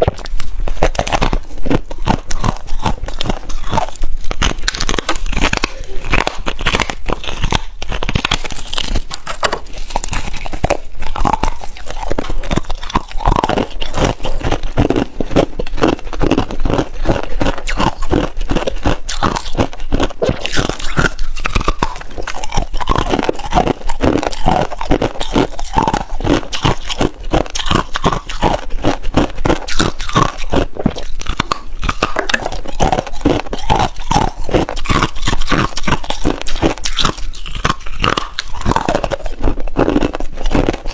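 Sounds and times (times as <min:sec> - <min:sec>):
chewing icy frost crunches: 0:00.0 - 0:40.9.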